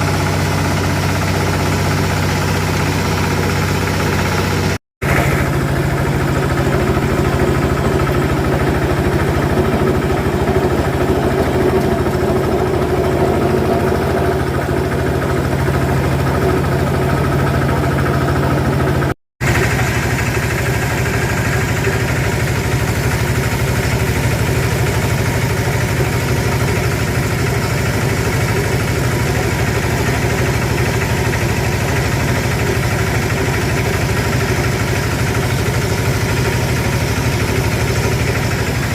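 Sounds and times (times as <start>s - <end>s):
machine motor hum and rattle: 0.0s - 38.9s.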